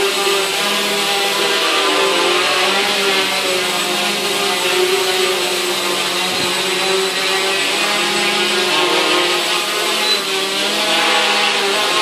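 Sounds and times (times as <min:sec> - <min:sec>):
quadcopter motors buzzing whine: 0:00.0 - 0:12.0.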